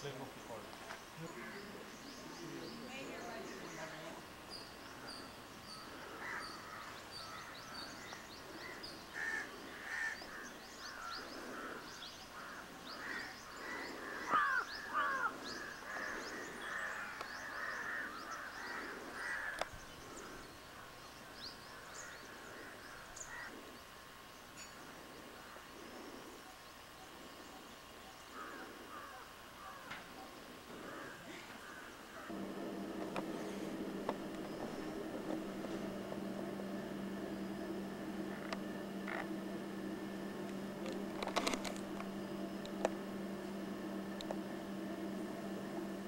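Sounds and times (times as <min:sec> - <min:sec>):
birds calling harshly: 0:00.0 - 0:24.0, 0:24.6 - 0:39.3.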